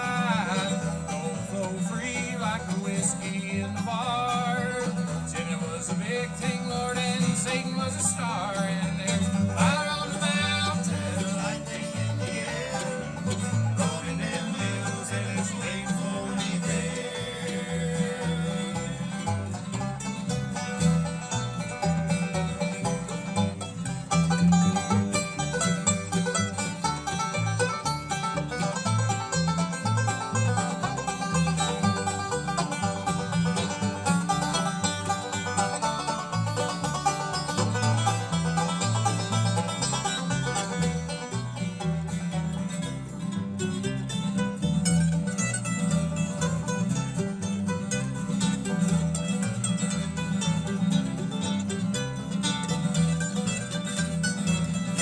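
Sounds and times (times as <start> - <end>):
banjo picking: 0.0 - 55.0
bouncing bass line: 0.0 - 55.0
guitar picking: 0.0 - 55.0.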